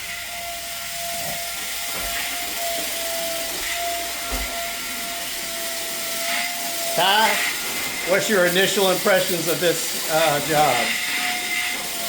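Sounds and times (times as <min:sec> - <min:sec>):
vacuum machine whine and hiss: 0:00.0 - 0:12.0.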